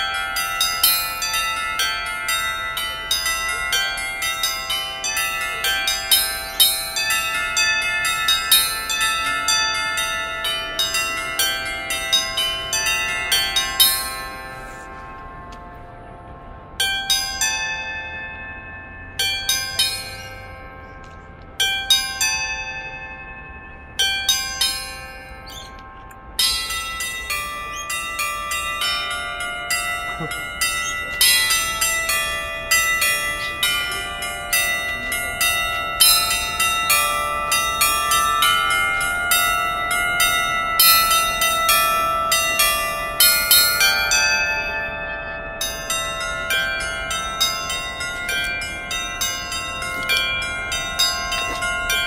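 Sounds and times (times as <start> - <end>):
bells ringing: 0.0 - 52.0.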